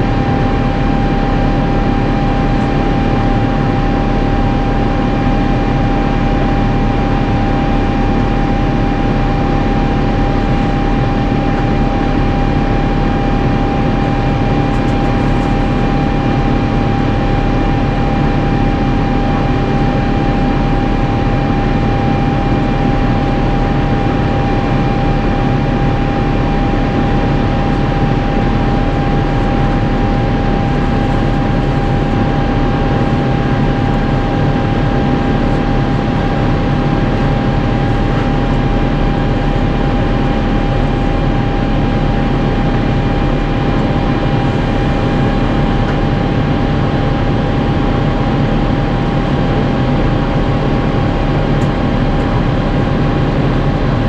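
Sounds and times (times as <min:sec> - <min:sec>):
airplane cabin engine rush: 0:00.0 - 0:54.0
constant engine whine: 0:00.0 - 0:54.0.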